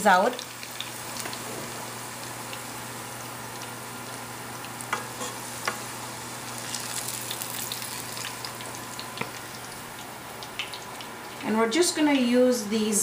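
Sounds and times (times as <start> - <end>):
onions sizzling in oil: 0.0 - 12.3.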